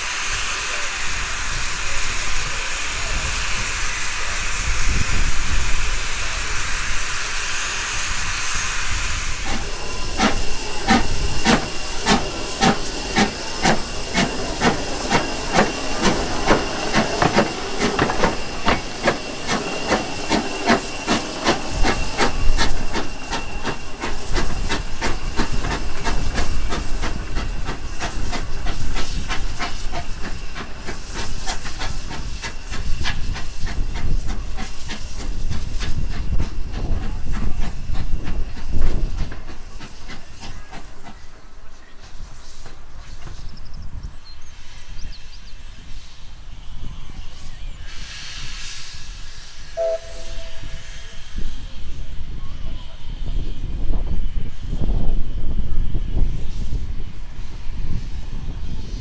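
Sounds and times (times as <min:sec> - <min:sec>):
steam exhaust chuffing: 0:00.0 - 0:43.5, 0:45.6 - 0:59.0
steam locomotive hissing: 0:00.0 - 0:59.0.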